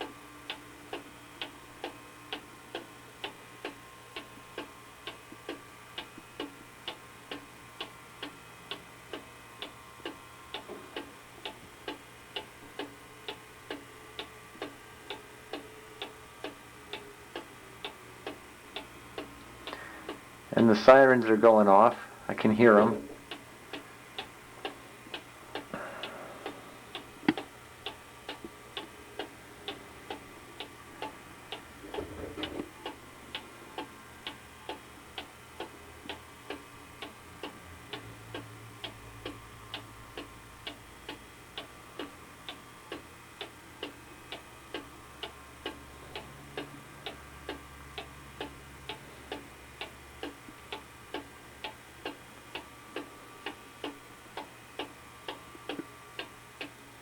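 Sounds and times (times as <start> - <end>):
clock ticking: 0.0 - 22.0, 26.4 - 42.1, 42.9 - 56.8.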